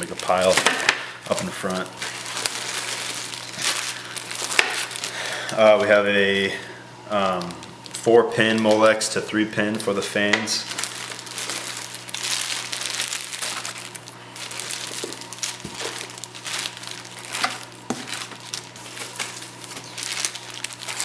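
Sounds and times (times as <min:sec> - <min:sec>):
packaging crinkling and rustling: 0:00.0 - 0:06.6, 0:07.2 - 0:21.0.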